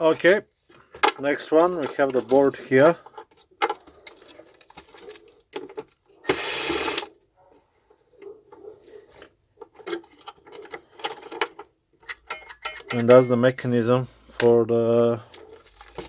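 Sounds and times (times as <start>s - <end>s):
plastic parts clicking and rattling: 0.0s - 7.2s, 7.9s - 13.4s, 14.3s - 16.0s.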